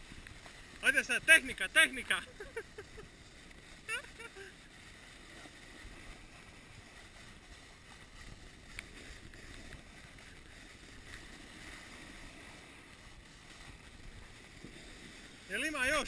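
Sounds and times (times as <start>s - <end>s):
skis hissing over snow: 0.0s - 16.0s.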